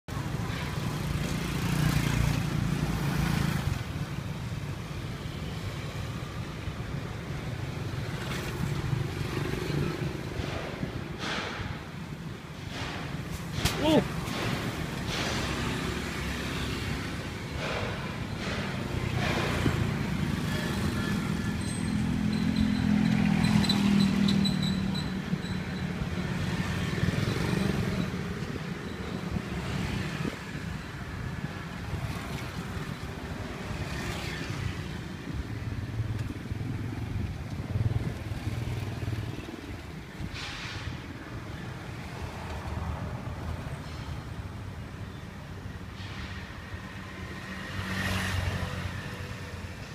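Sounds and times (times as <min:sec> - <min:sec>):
vehicle engines passing by: 0:00.1 - 0:49.9.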